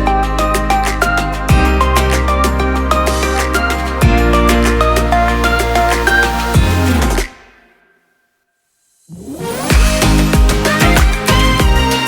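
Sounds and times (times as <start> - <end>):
upbeat electronic music: 0.0 - 7.8, 9.1 - 12.0.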